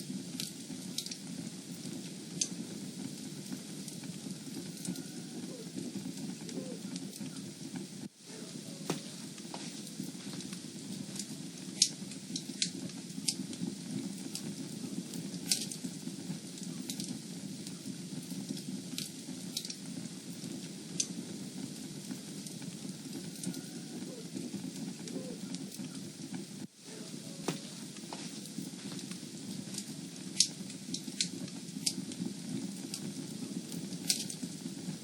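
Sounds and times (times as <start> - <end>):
fire crackling and popping: 0.0 - 35.0
low rumble of burning: 0.0 - 35.0.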